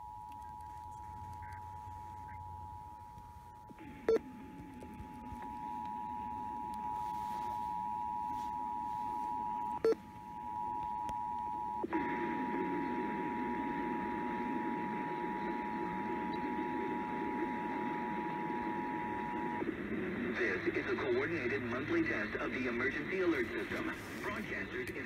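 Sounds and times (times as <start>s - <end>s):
radio hiss: 0.0s - 25.0s.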